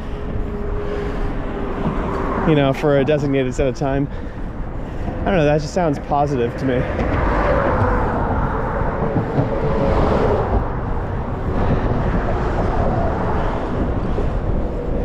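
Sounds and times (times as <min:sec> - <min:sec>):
bicycle road noise: 0:00.0 - 0:15.0
wind buffeting microphone: 0:00.0 - 0:15.0.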